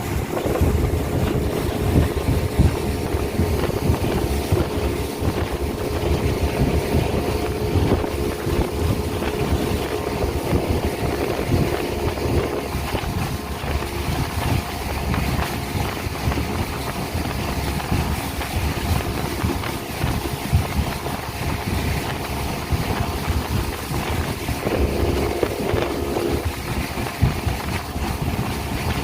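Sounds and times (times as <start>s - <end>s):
hull rumbling on water: 0.0s - 29.0s
speedboat engine running: 0.0s - 29.0s
wind buffeting microphone: 0.0s - 29.0s.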